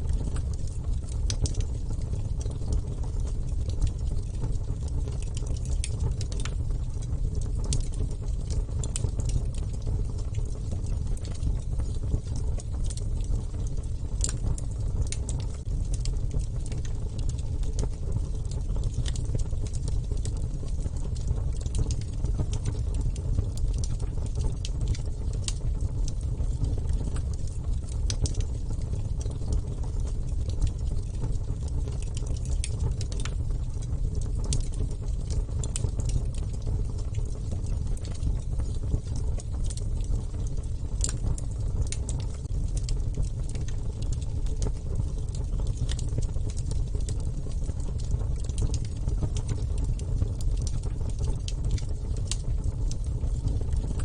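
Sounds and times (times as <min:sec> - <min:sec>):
burning wood crackling and popping: 0:00.0 - 0:54.0
low rumble of flames: 0:00.0 - 0:54.0.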